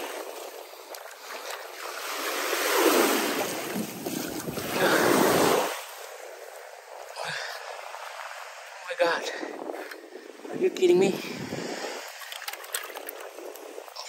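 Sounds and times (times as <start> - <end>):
surf washing over sand: 0.0 - 14.0
wind on microphone: 0.0 - 14.0.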